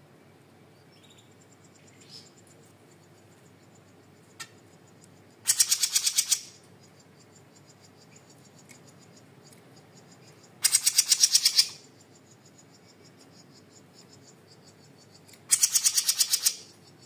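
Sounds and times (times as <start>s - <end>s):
crickets chirping: 0.0s - 17.0s
songbird rattling trills: 0.9s - 17.0s.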